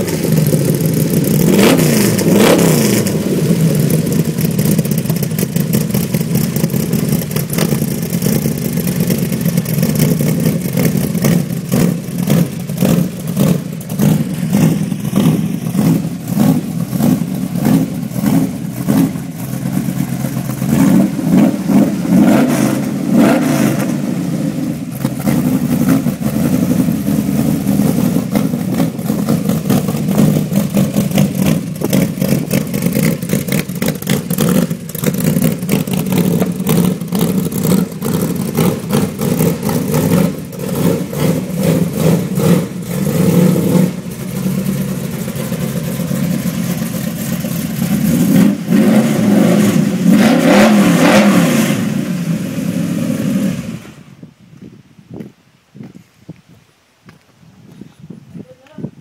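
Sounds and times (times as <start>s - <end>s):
car engine with choppy exhaust: 0.0s - 59.0s.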